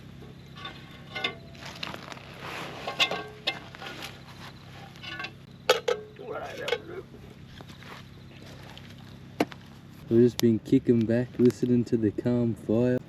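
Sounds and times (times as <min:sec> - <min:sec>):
campfire crackling: 0:00.0 - 0:11.8
fire popping and snapping: 0:00.0 - 0:11.8.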